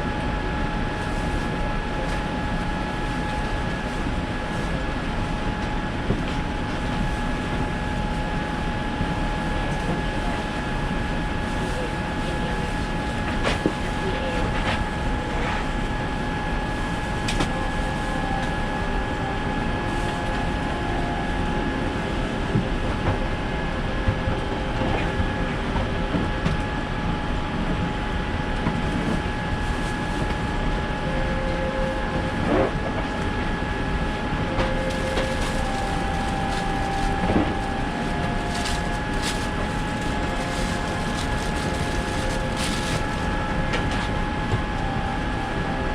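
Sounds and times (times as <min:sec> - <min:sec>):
airliner cabin noise: 0:00.0 - 0:45.9
thin steady whine: 0:00.0 - 0:45.9.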